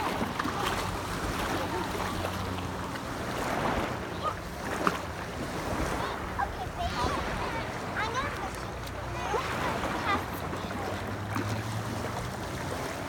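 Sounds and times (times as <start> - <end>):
water lapping against paddleboard: 0.0 - 13.0.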